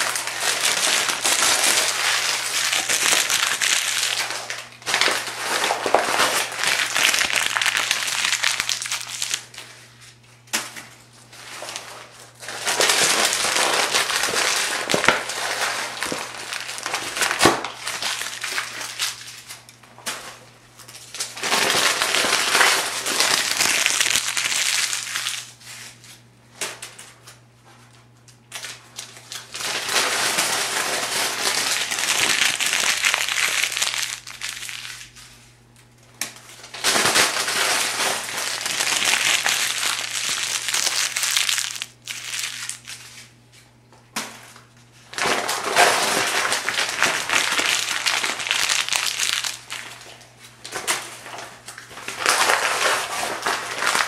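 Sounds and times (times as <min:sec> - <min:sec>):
paper pages crumpling by hand: 0:00.0 - 0:10.2, 0:11.3 - 0:19.7, 0:20.8 - 0:26.2, 0:28.5 - 0:35.5, 0:36.6 - 0:43.4, 0:44.9 - 0:54.0.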